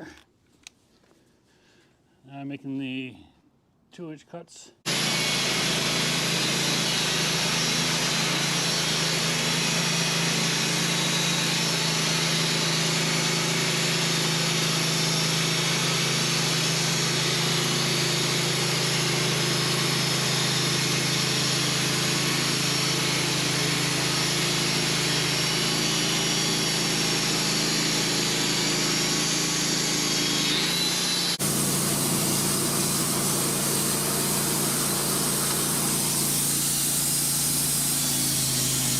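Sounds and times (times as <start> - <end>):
band blade cutting wood: 4.9 - 38.9
sawmill motor under load: 4.9 - 38.9.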